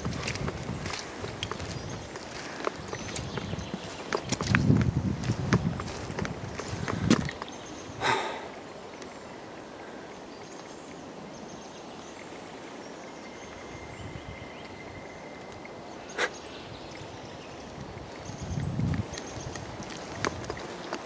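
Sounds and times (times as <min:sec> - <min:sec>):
high bird calls: 0:00.0 - 0:11.5, 0:13.2 - 0:21.0.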